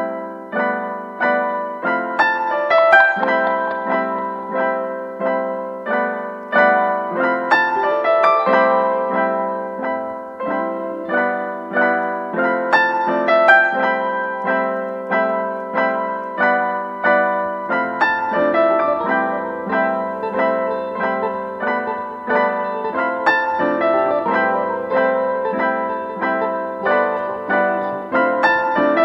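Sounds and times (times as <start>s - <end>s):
piano playing notes: 0.0s - 29.0s.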